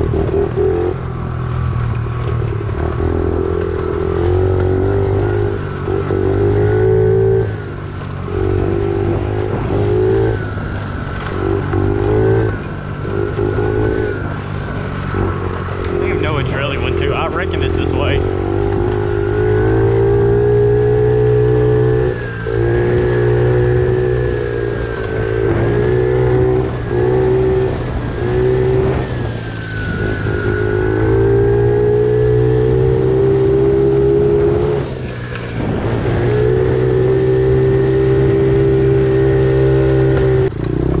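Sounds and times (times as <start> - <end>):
small motorcycle engine running: 0.0 - 41.0.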